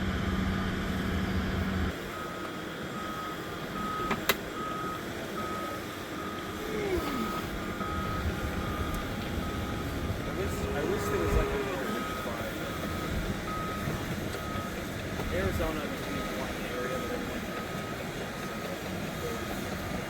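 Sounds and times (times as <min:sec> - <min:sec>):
steady low hum: 0:00.0 - 0:20.0
reversing alarm beeping: 0:01.8 - 0:20.0.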